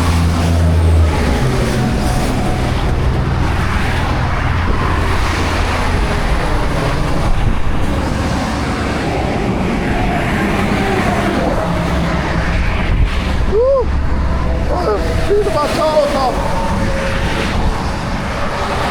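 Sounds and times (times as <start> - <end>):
continuous rushing noise: 0.0 - 18.9
truck engine running: 0.0 - 18.9.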